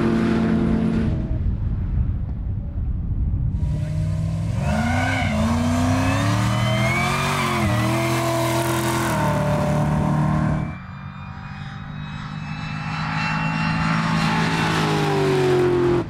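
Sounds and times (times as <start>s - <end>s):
engine accelerating hard: 0.0s - 1.6s, 3.6s - 16.0s
distant engine: 0.0s - 1.7s, 3.6s - 16.0s.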